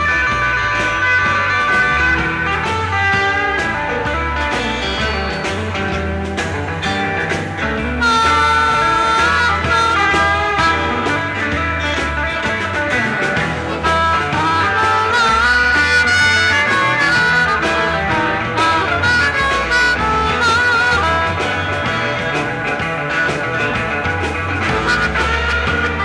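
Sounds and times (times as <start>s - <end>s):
electric guitar: 0.0s - 26.0s
harmonica wailing bent notes: 0.0s - 26.0s
pulsing bass: 0.0s - 26.0s.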